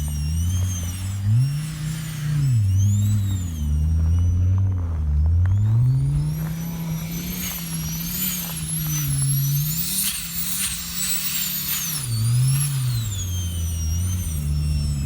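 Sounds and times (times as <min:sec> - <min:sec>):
turbo whistle: 0:00.0 - 0:04.7, 0:05.7 - 0:15.0
car engine revving: 0:00.0 - 0:15.0.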